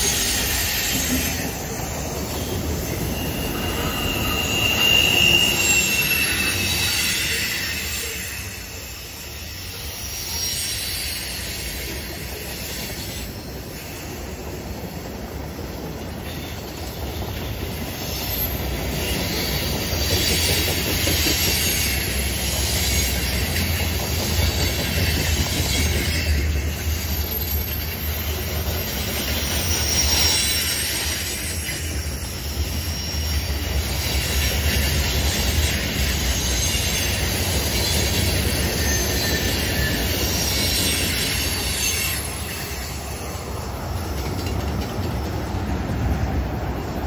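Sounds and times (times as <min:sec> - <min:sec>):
steel wheel squeal: 0:00.0 - 0:45.6
freight train rumbling past: 0:00.0 - 0:47.0.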